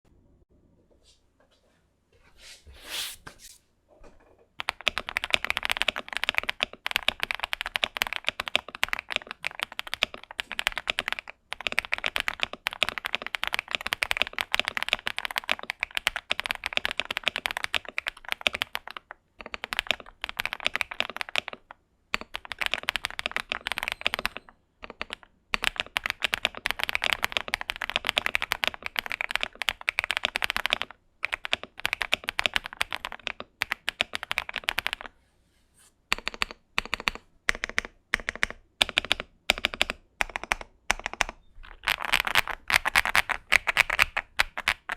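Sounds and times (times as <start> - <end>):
mechanical keyboard typing: 4.6 - 35.1, 36.1 - 44.9.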